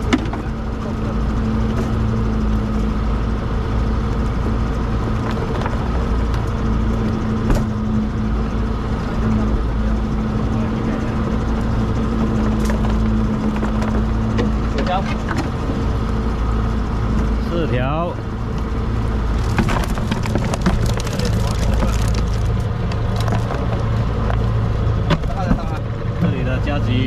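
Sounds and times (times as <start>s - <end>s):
boat motor humming: 0.0s - 27.0s.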